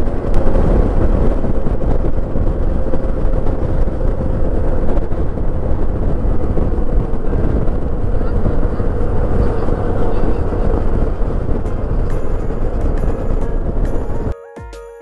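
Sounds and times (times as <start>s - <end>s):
motorcycle engine drone: 0.0s - 14.4s
wind rushing across microphone: 0.0s - 14.4s.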